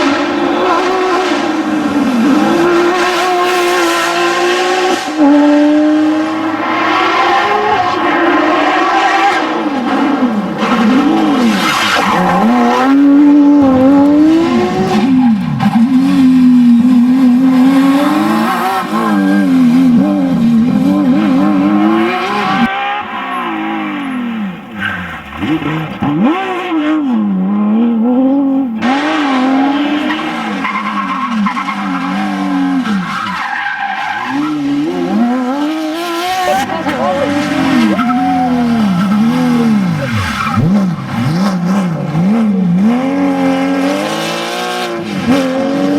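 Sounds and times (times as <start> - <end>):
rally car engine revving: 0.0 - 45.9.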